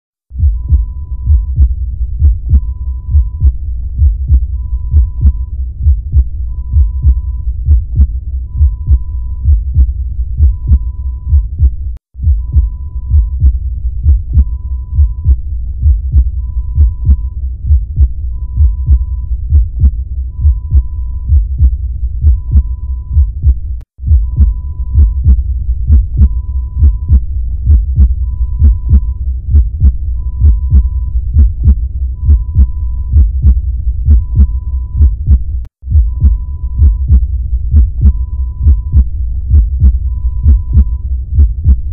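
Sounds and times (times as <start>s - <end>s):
heartbeat thumping pulses: 0.3s - 41.9s.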